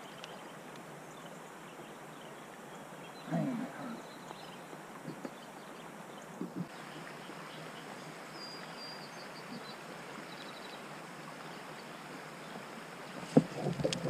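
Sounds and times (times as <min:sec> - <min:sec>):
moving river water hiss: 0:00.0 - 0:14.0.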